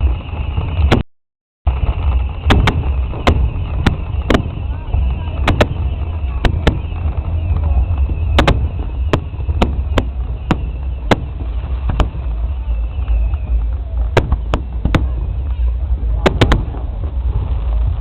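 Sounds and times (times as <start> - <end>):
fireworks bangs: 0.0 - 1.1, 1.7 - 18.0
steady low rumble: 1.7 - 18.0.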